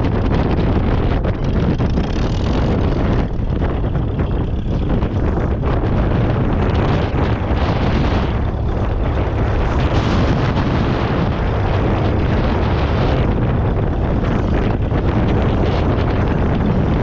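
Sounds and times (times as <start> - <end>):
tractor engine running: 0.0 - 17.0
wind buffeting microphone: 0.0 - 17.0.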